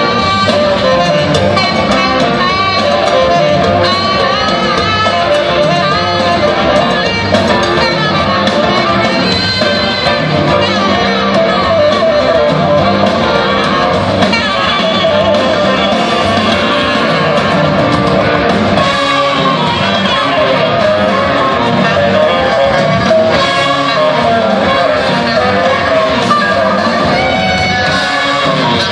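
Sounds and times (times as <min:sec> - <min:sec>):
lead electric guitar bending notes: 0:00.0 - 0:28.9
live rock band playing: 0:00.0 - 0:28.9.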